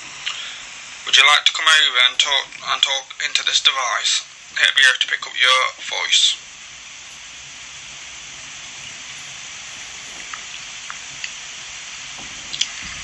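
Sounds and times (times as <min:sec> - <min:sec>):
voice recorder playback hiss: 0:00.0 - 0:13.0.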